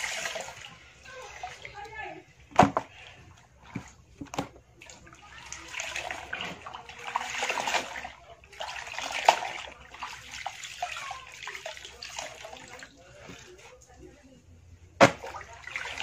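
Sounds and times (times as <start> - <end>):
water splashing into plastic basin: 0.0 - 13.6, 15.0 - 16.0.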